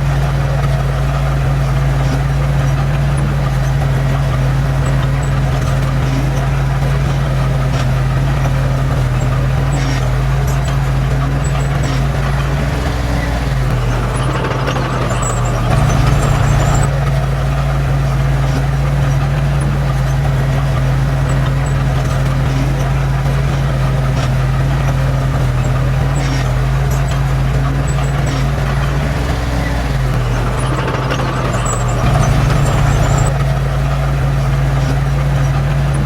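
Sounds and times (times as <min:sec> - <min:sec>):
earthmoving machine diesel engine: 0:00.0 - 0:36.0.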